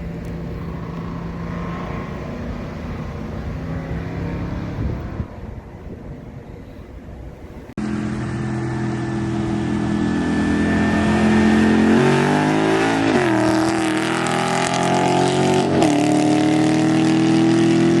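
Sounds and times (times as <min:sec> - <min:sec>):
car engine accelerating hard: 0:00.0 - 0:05.2, 0:07.8 - 0:18.0.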